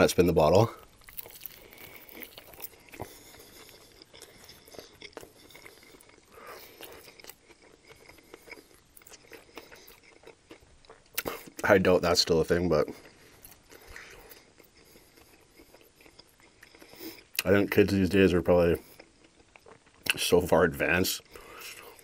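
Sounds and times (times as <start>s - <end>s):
man chewing crunchy sandwich: 0.1s - 20.3s, 21.2s - 22.0s.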